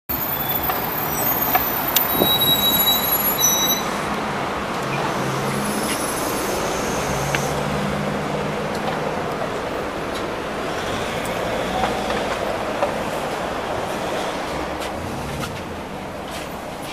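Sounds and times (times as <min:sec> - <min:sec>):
bus engine running: 0:00.1 - 0:16.9
road and cabin noise: 0:00.1 - 0:16.9.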